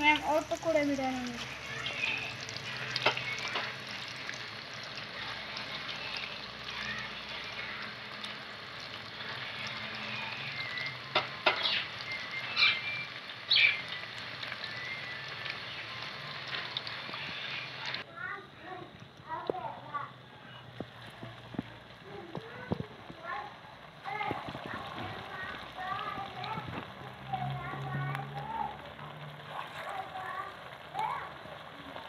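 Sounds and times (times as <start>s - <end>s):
deep-frying sizzle: 0.0s - 32.0s.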